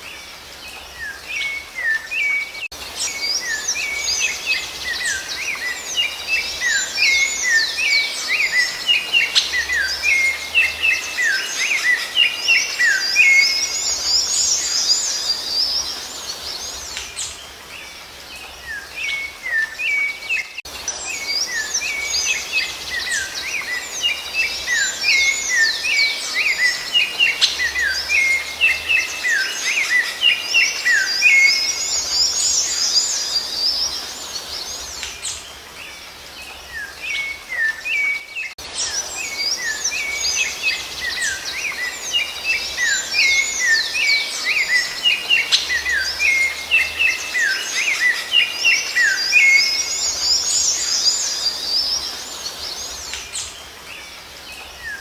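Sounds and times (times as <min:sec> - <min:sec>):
thrush whistling and chirping: 0:01.0 - 0:17.4, 0:18.7 - 0:55.0.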